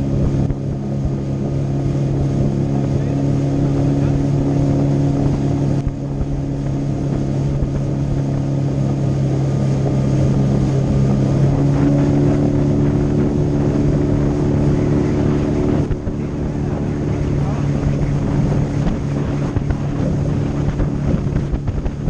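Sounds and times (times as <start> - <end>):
boat moving through water: 0.0 - 22.0
outboard motor running: 0.0 - 22.0.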